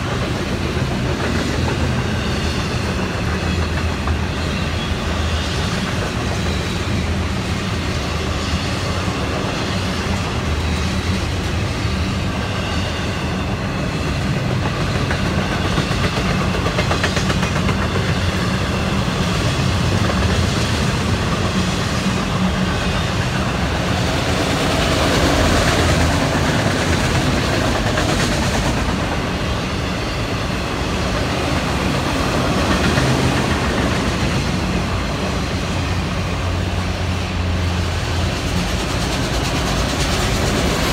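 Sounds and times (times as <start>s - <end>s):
train wheels on rails: 0.0s - 40.9s.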